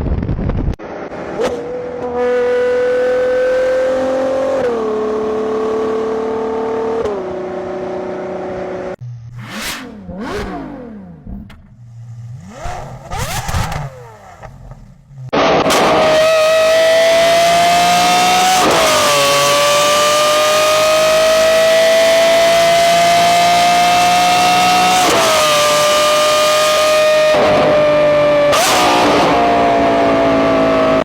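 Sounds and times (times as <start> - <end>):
car engine and exhaust under load: 0.0 - 31.0
engine revving: 0.8 - 31.0.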